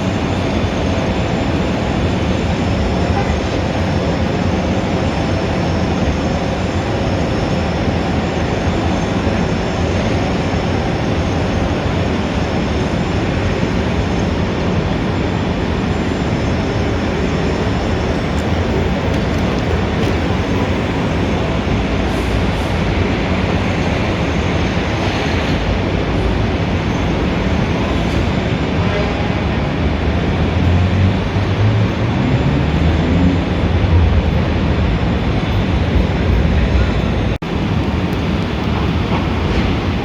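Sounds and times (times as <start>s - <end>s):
city traffic noise: 0.0s - 40.0s.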